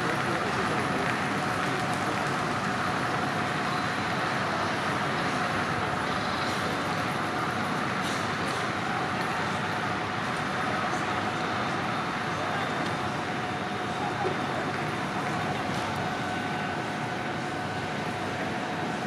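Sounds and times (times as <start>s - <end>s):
station platform hum: 0.0s - 19.0s.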